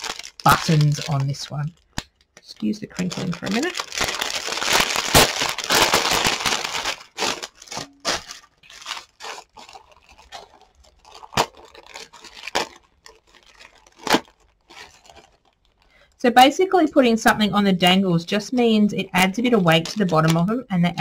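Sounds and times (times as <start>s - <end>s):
plastic bag crinkling: 0.0s - 16.2s, 18.4s - 20.6s.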